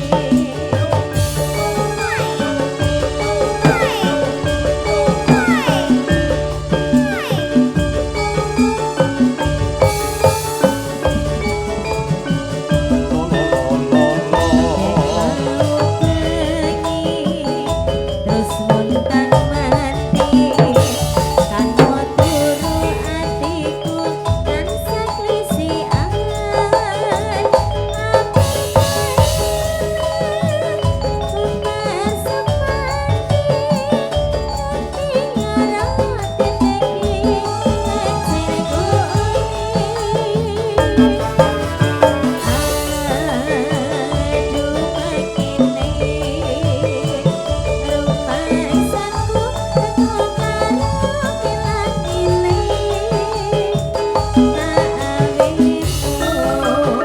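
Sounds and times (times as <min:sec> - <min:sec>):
drums: 0:00.0 - 0:57.0
pitched percussion: 0:00.0 - 0:57.0
sustained melodic tones: 0:00.0 - 0:57.0.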